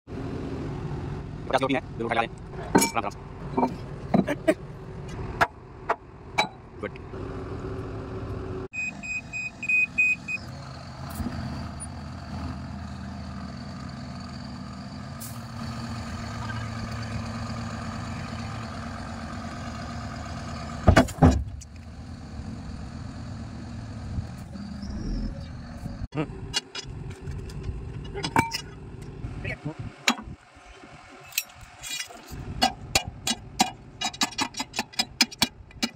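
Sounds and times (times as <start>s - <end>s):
excavator diesel engine running: 0.1s - 35.0s.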